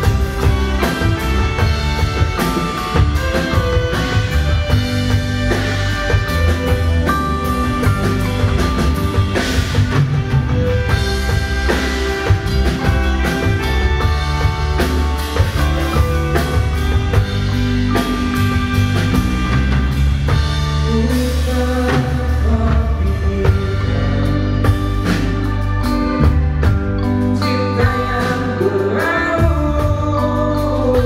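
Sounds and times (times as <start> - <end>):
drum kit: 0.0 - 31.0
electric bass: 0.0 - 31.0
electric guitar: 0.0 - 31.0.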